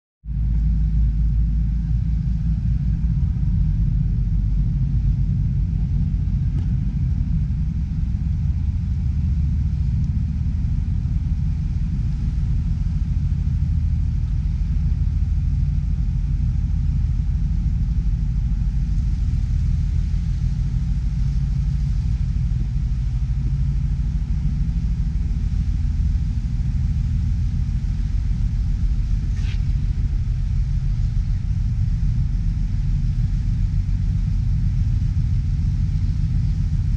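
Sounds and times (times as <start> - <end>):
ferry engine low rumble: 0.2 - 36.9.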